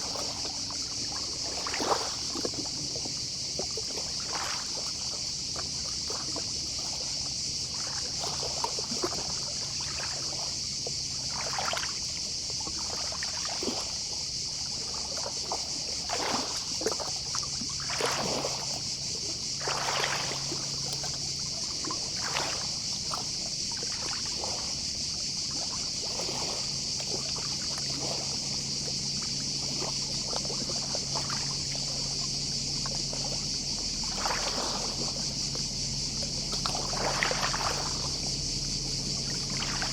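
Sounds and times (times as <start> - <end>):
distant cicadas: 0.0 - 39.9
sea waves lapping at shore: 0.0 - 39.9.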